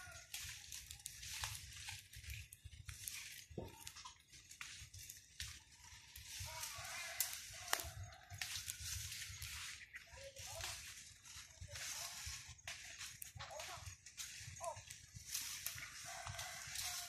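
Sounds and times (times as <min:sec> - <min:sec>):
clicks and crackles of handling leaves: 0:00.0 - 0:17.0.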